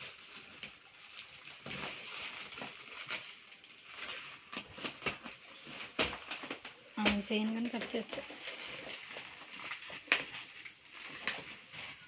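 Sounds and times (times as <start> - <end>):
plastic and cardboard rustling: 0.0 - 12.0
sharp crackles: 0.0 - 12.0.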